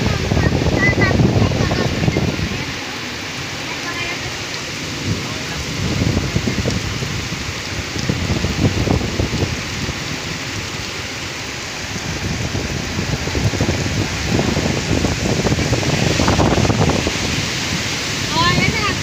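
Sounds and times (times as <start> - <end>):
heavy rain: 0.0 - 19.0
wind rumbling on microphone: 0.0 - 19.0.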